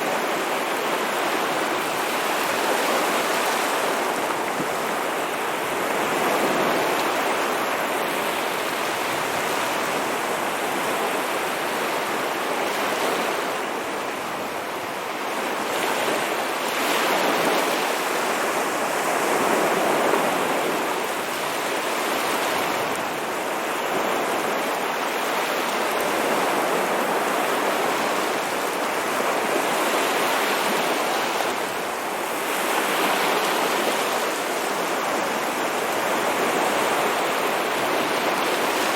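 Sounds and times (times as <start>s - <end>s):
ocean waves washing on shore: 0.0s - 38.9s.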